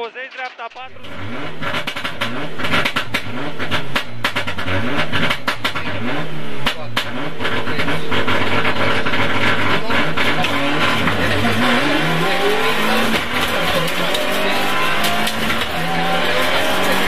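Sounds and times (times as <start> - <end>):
exhaust pops and cracks: 0.2 - 6.0, 6.6 - 11.7, 12.8 - 17.0
car engine revving: 0.8 - 17.0.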